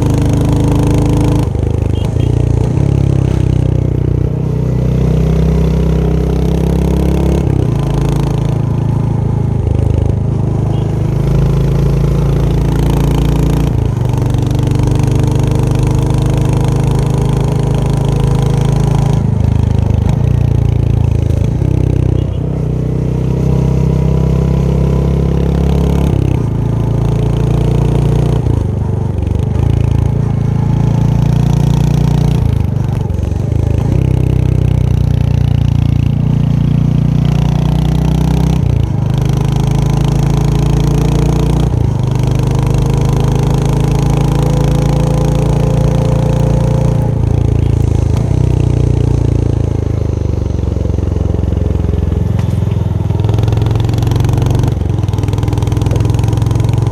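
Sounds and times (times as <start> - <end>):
exhaust note shifting gears: 0.0 - 35.4, 37.5 - 51.0, 52.2 - 56.9
motorcycle engine running: 0.0 - 56.9.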